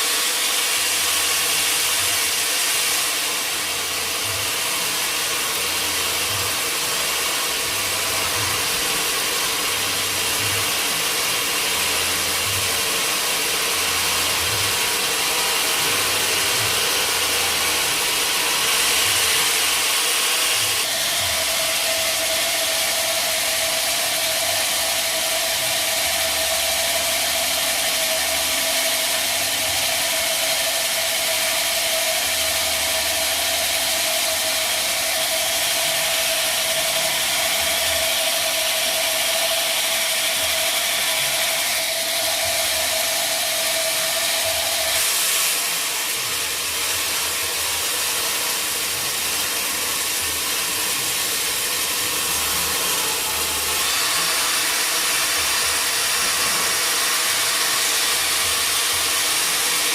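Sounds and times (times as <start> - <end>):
sawmill saw cutting wood: 0.0 - 59.9
steady hum: 0.0 - 59.9.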